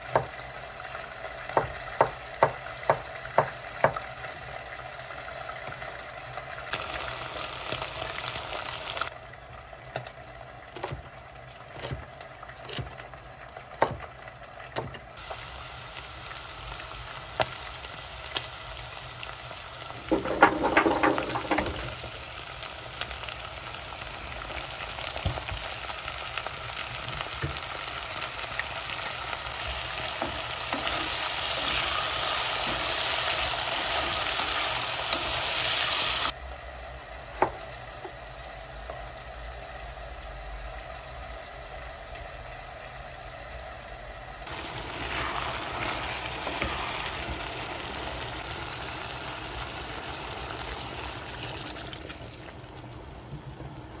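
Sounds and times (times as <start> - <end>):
food sizzling in a pan: 0.0 - 9.3, 15.2 - 43.2, 43.9 - 54.0.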